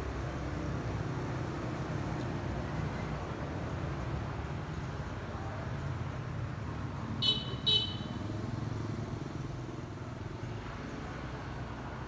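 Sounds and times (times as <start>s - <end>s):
engine and traffic rumble: 0.0s - 12.0s.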